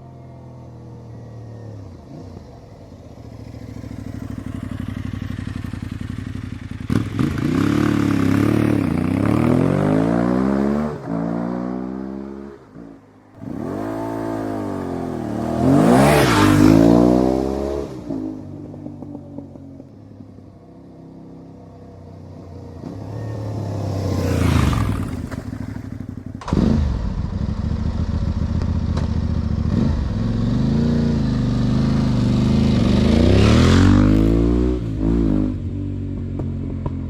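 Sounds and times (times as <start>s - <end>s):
motorcycle engine revving past: 2.0s - 19.6s, 22.8s - 37.0s.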